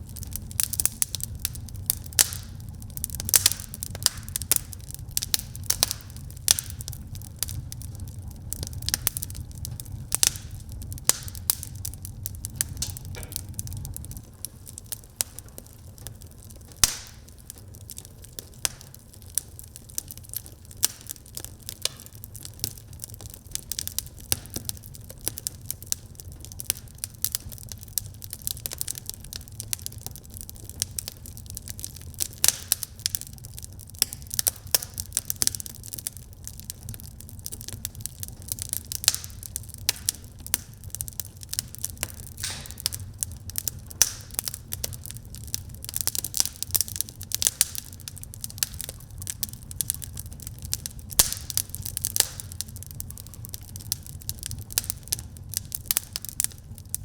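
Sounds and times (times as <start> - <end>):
fire pops and snaps: 0.0 - 57.0
wood fire crackling: 0.0 - 57.0.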